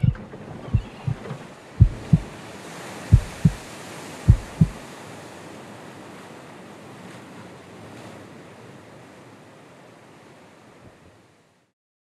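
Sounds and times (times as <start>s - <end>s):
waves breaking: 0.0s - 11.6s.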